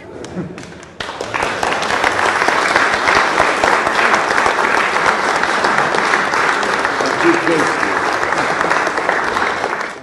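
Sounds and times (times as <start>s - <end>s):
crowd applauding: 0.6s - 10.0s.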